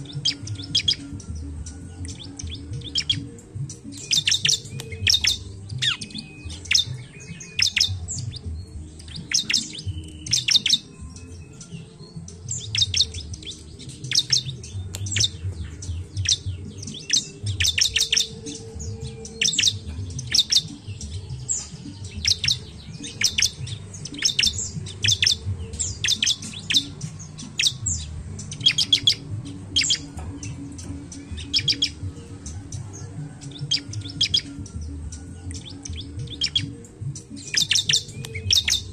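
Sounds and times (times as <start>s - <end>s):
bird high chirps: 0.0s - 38.9s.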